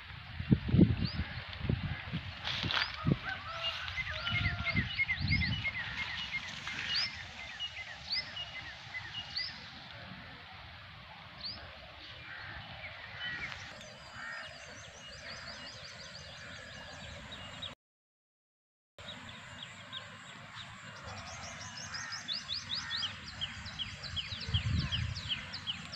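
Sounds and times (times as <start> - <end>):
birds chirping and calling: 0.3 - 10.6, 11.2 - 17.8, 19.0 - 25.9.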